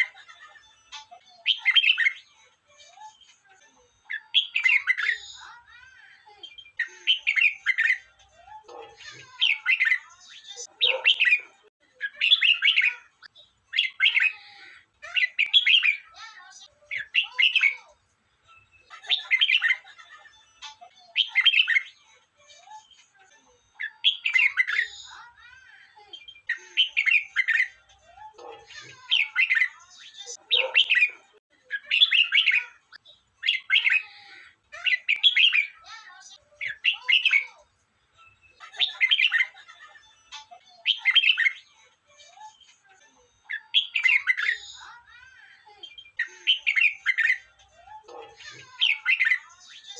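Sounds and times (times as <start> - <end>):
bird singing warbled phrases: 0.0 - 49.9.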